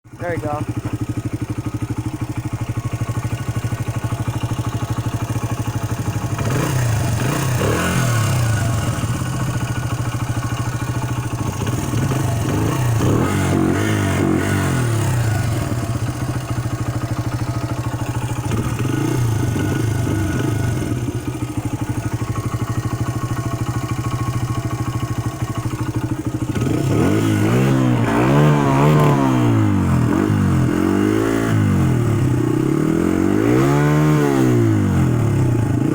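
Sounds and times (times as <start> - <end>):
dirt bike engine idling and revving: 0.0 - 35.9.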